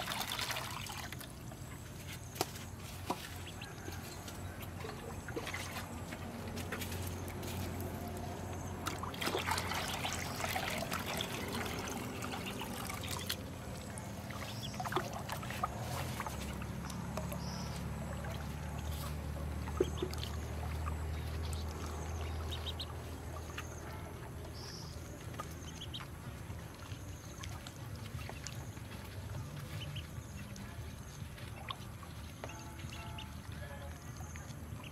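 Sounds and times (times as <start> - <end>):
ducklings splashing in water: 0.0 - 34.9.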